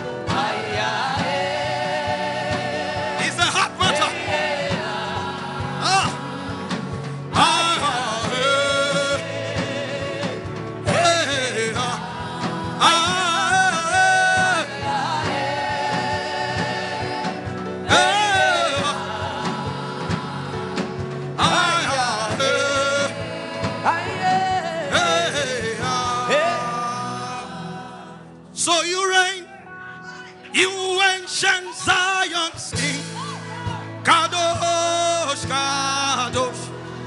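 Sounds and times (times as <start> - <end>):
instrumental backing: 0.0 - 37.0
person singing gospel: 0.0 - 37.0.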